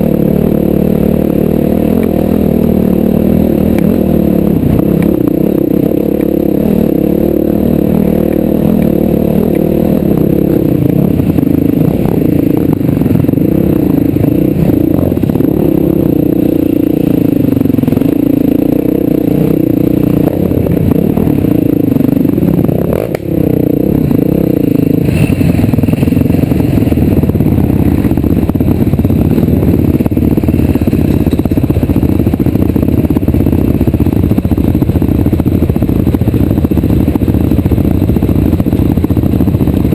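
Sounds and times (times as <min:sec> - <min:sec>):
vehicle engine under load: 0:00.0 - 0:39.9.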